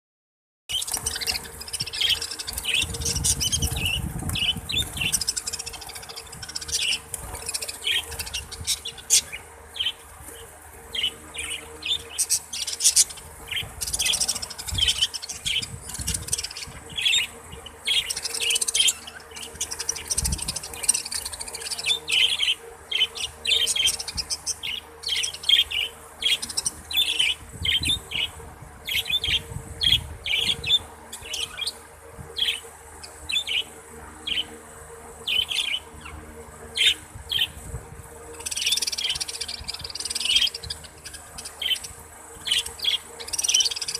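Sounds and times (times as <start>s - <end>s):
budgerigars chirping: 0.7s - 10.0s, 10.9s - 31.8s, 38.4s - 43.9s
faint steady hum: 0.7s - 43.9s.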